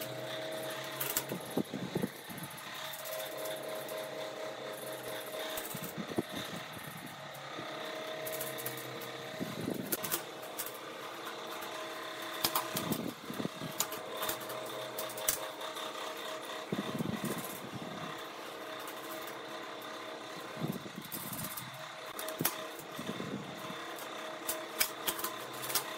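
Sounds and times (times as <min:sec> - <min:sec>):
steady background hum: 0:00.0 - 0:25.9.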